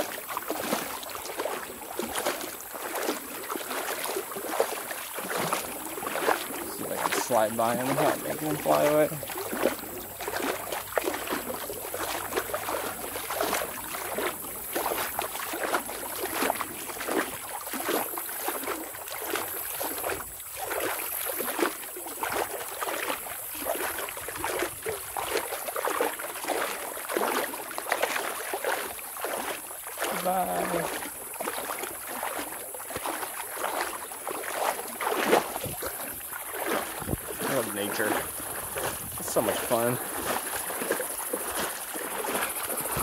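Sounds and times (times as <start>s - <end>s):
wading through shallow water: 0.0s - 43.0s.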